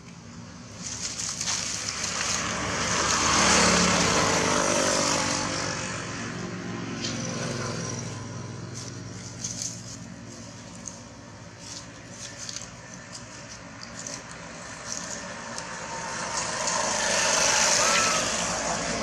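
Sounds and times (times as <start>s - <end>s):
vehicle engine passing by: 0.8s - 19.0s.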